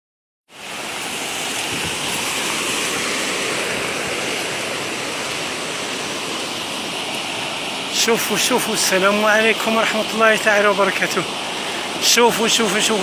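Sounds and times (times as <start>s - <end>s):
floodwater rushing: 0.5s - 13.0s.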